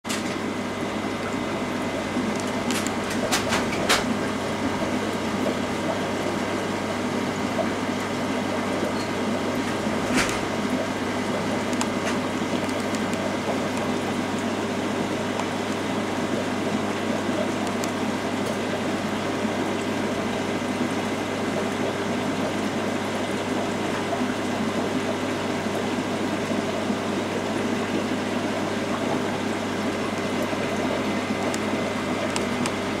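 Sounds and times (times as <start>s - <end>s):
aquarium pumps humming: 0.1s - 33.0s.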